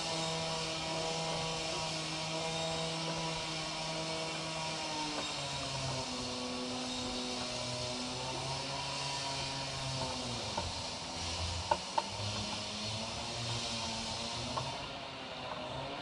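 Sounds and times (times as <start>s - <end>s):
engine drone with hiss: 0.0s - 16.0s.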